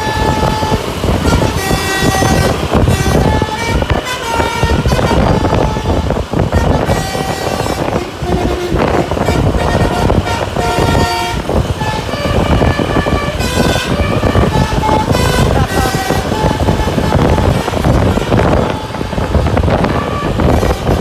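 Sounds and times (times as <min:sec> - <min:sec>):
bus engine: 0:00.0 - 0:21.0
bus horn playing melody: 0:00.0 - 0:21.0
road noise: 0:00.0 - 0:21.0.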